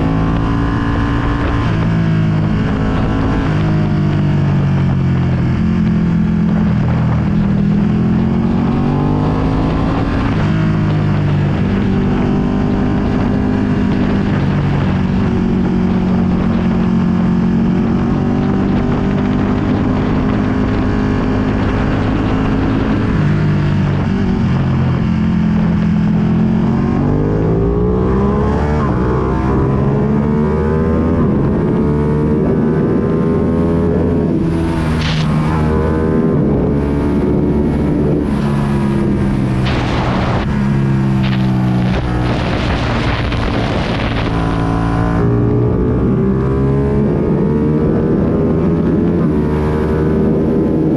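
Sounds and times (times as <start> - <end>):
motorcycle engine accelerating: 0.0 - 50.9
wind noise on microphone: 0.0 - 50.9.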